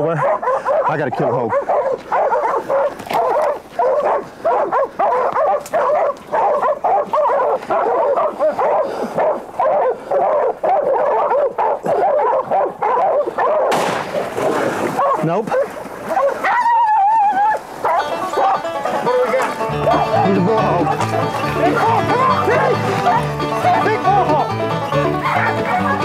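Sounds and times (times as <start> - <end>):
dogs barking and baying: 0.0 - 26.0.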